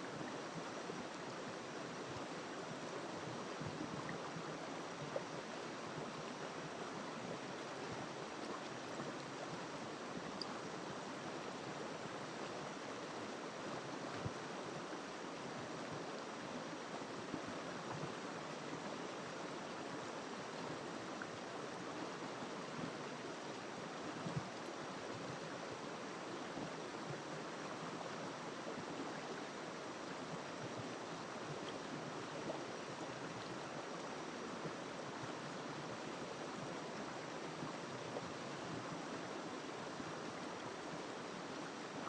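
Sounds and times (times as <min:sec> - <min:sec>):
river water flowing: 0:00.0 - 0:42.0.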